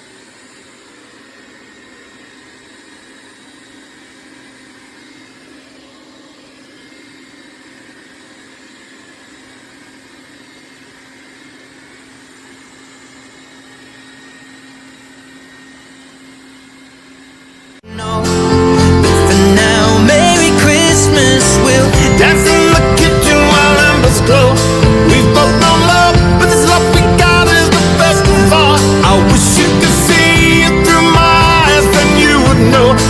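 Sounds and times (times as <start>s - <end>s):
robot vacuum motor hum: 0.0s - 17.8s, 18.8s - 33.0s.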